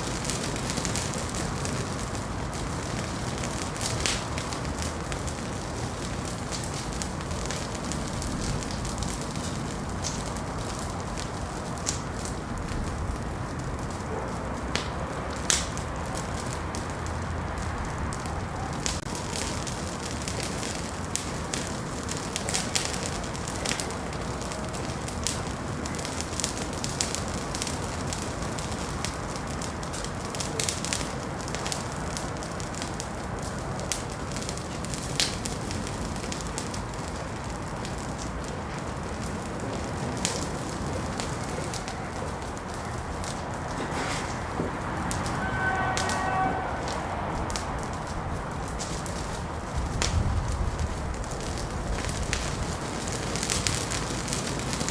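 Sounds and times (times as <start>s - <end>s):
fire crackling and popping: 0.0s - 54.9s
wood fire flames rushing: 0.0s - 54.9s.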